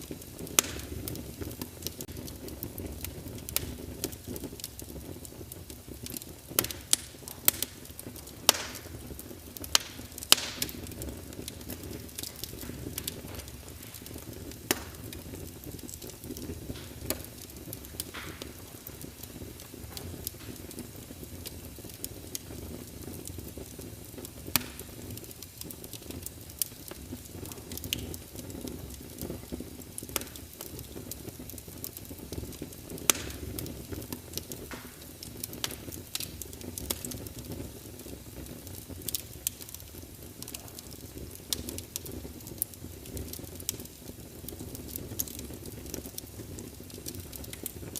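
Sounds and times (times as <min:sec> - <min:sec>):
burning wood crackling and popping: 0:00.0 - 0:47.9
fire burning in fireplace: 0:00.0 - 0:47.9.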